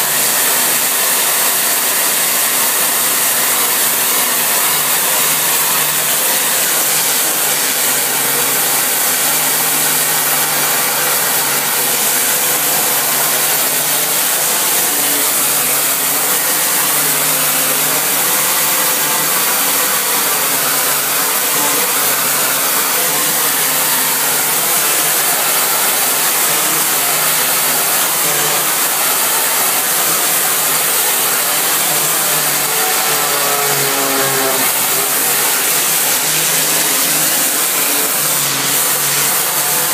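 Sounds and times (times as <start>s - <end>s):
pressure washer motor hum: 0.0s - 39.9s.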